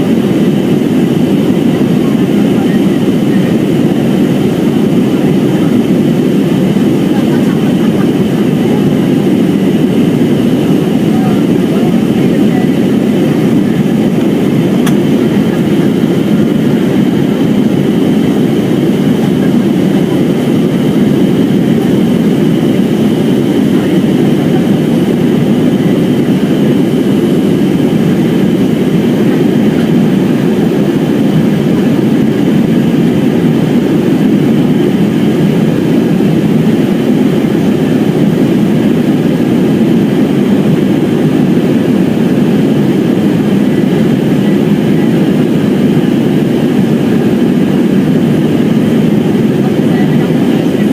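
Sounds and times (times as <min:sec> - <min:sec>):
jet engines and rushing air: 0:00.0 - 0:50.9.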